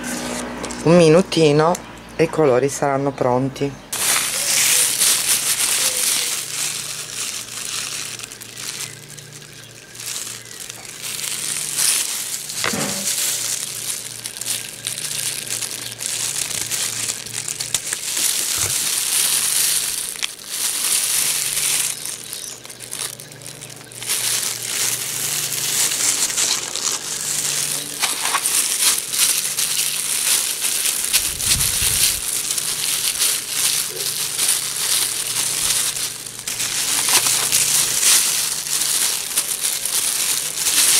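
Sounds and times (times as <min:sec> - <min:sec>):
plastic gloves crinkling: 0:00.0 - 0:01.7, 0:03.9 - 0:40.9.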